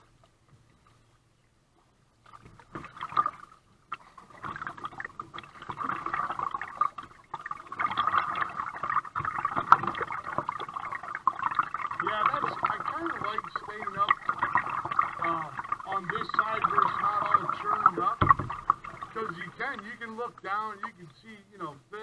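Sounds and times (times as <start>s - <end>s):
paddle splashes: 0.0s - 21.4s
water splashing and sloshing: 0.0s - 21.6s.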